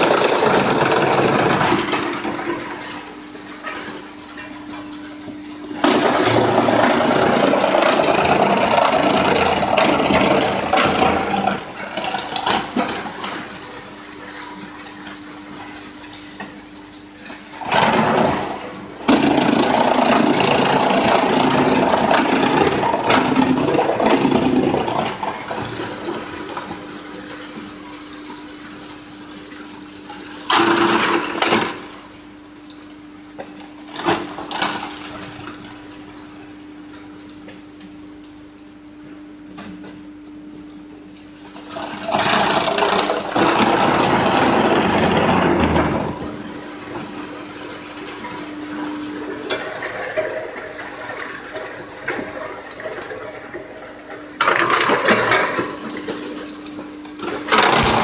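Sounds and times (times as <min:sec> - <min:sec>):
pallets being shredded: 0:00.0 - 0:32.3, 0:33.4 - 0:35.6, 0:41.6 - 0:58.0
shredder humming: 0:00.0 - 0:38.0, 0:38.6 - 0:58.0.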